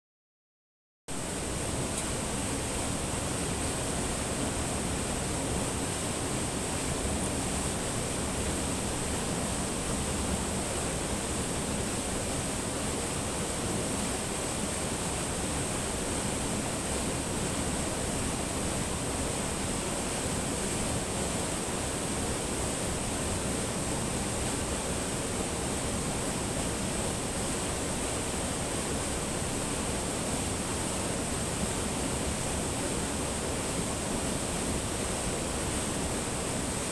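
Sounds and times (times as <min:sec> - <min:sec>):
water flowing over rocks: 0:01.2 - 0:36.9.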